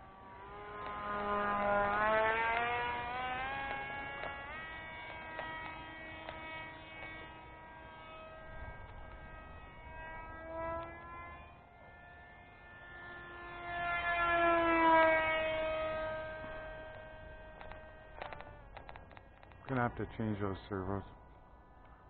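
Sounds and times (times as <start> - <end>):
model plane propeller whining: 0.0 - 22.0.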